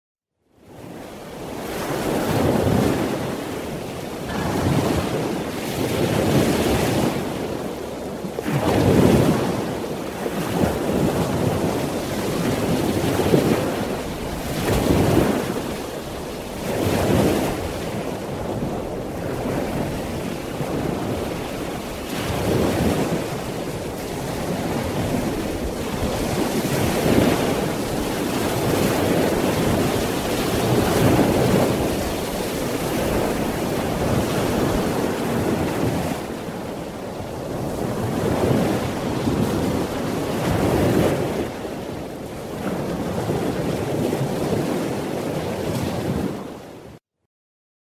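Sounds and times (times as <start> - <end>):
ocean waves breaking: 0.6 - 47.0.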